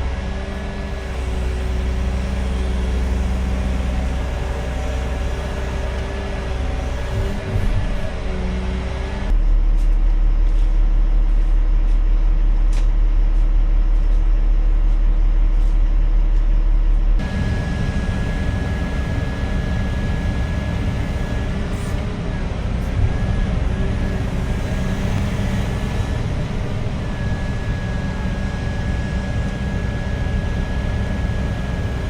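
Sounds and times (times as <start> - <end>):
deep rumble: 0.0 - 32.0
diesel machinery running: 0.0 - 32.0
steady hum: 1.0 - 32.0.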